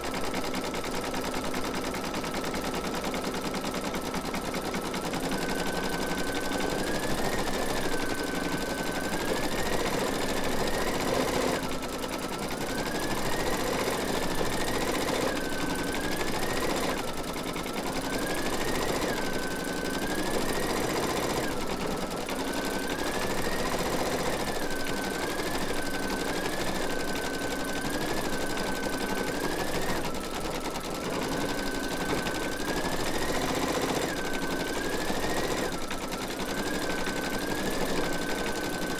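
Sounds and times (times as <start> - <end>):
sewing needle clatter: 0.0 - 38.9.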